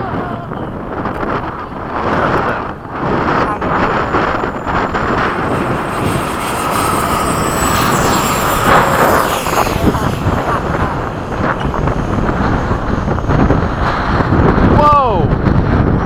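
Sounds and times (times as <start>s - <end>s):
jet fan rushing with high whine: 0.0s - 16.0s
wind buffeting microphone: 0.0s - 16.0s.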